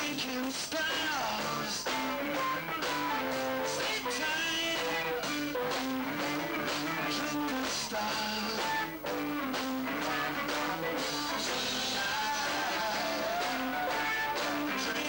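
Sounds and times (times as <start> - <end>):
man singing: 0.0 - 9.0, 10.6 - 15.0
electric guitars: 0.0 - 15.0
rock band playing: 0.0 - 15.0.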